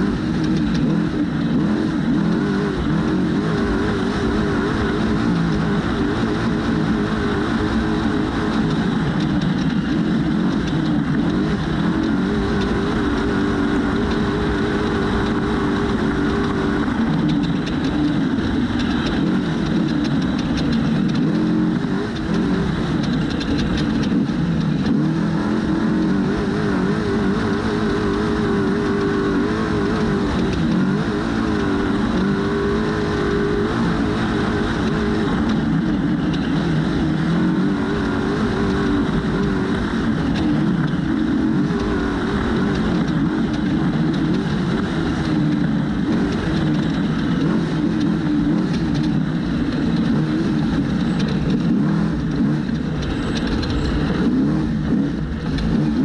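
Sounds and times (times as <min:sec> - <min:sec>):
steady rushing noise: 0:00.0 - 0:56.0
truck engine running hard: 0:00.0 - 0:56.0.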